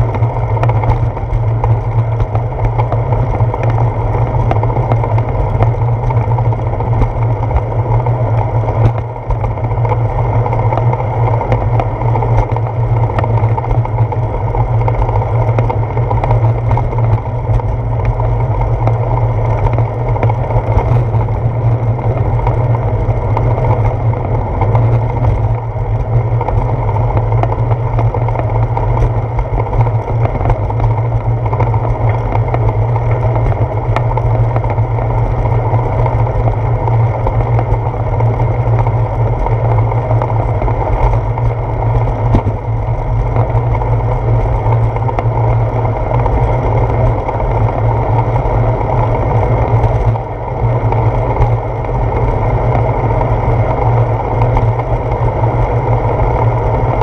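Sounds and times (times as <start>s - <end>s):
wind rumble on microphone: 0.0s - 57.0s.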